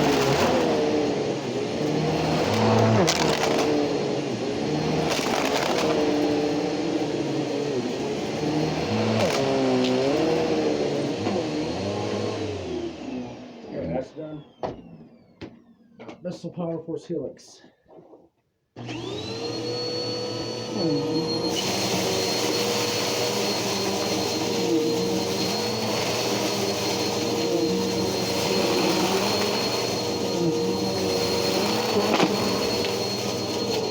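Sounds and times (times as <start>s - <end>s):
vacuum cleaner motor whine: 0.0s - 16.0s, 18.8s - 33.9s.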